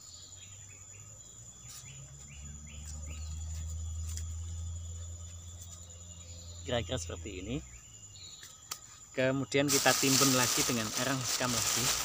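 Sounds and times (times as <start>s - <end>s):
bird chirping: 0.0s - 12.0s
insect trill: 0.0s - 12.0s.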